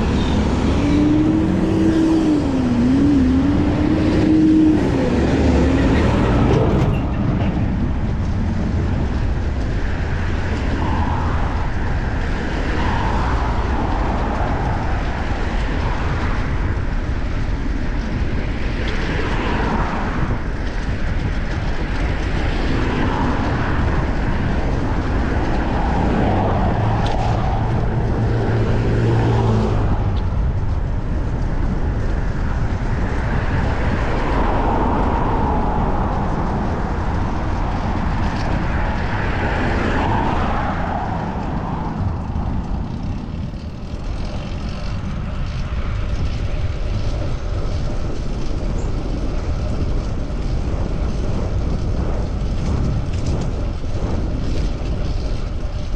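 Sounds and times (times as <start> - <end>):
motor vehicle engine hum: 0.0 - 55.9
road noise from bicycle: 0.0 - 55.9
wind noise: 0.0 - 55.9.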